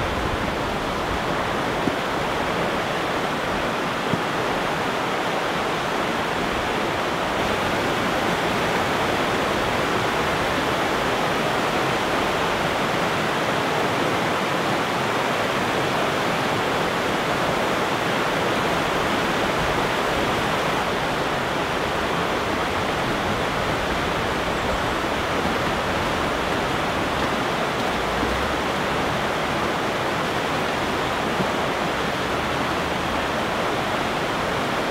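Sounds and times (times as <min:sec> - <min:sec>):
river rapids roaring: 0:00.0 - 0:34.9.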